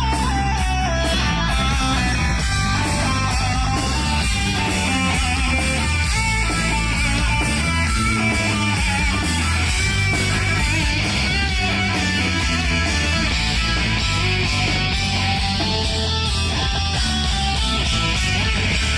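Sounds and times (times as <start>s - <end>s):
bass guitar: 0.0s - 18.9s
drums with steady cymbal beat: 0.0s - 18.9s
electric guitar sustained notes: 0.0s - 18.9s.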